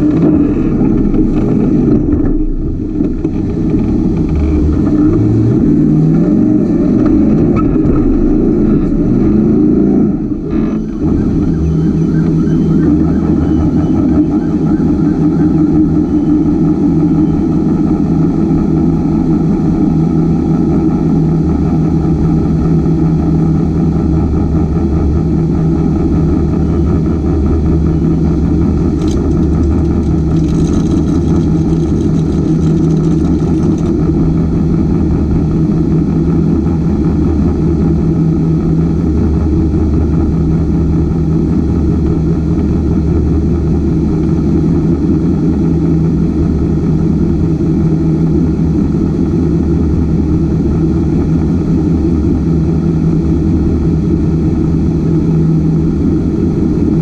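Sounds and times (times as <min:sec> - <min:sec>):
race car engine idling: 0:00.0 - 0:47.5.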